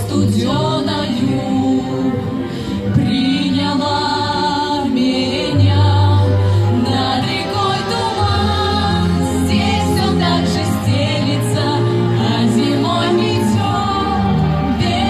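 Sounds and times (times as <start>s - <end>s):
girls singing: 0.0s - 2.3s, 2.9s - 15.0s.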